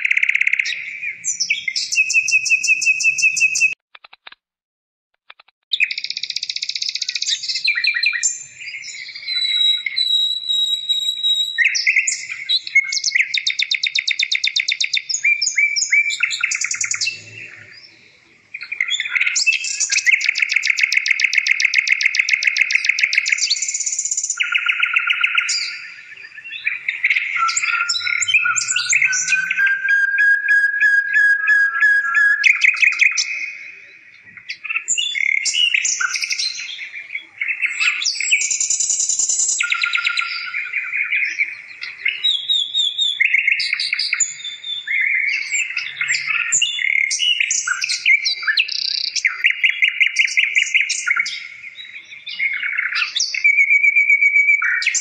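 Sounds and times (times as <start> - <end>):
songbird singing trills: 0.0 - 3.8, 5.7 - 55.0.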